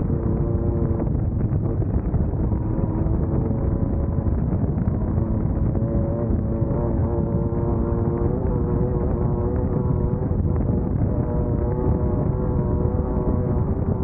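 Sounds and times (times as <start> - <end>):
race car engine running hard: 0.0 - 14.0.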